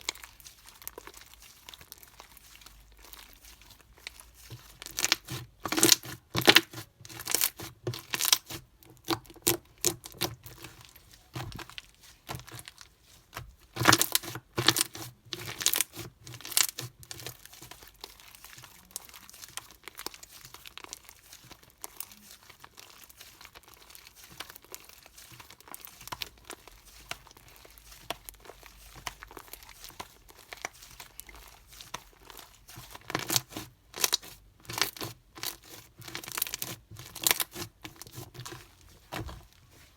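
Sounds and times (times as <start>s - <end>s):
slime crackling and popping: 0.0s - 39.7s.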